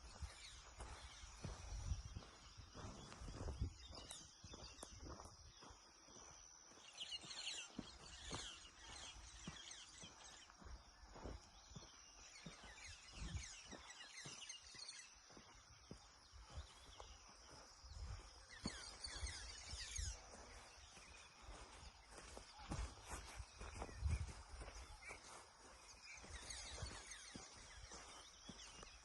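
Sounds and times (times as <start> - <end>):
bird chirps: 0.0 - 29.0.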